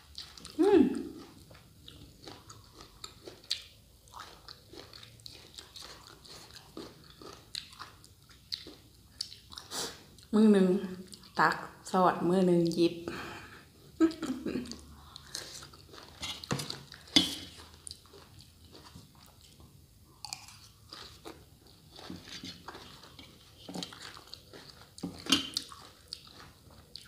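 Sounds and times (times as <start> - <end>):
crunchy chewing: 0.0 - 10.3, 14.7 - 27.0.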